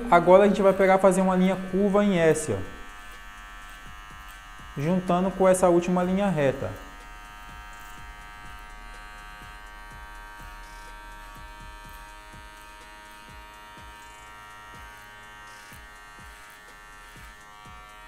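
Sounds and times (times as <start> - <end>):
hair trimmer buzzing: 0.0 - 18.0.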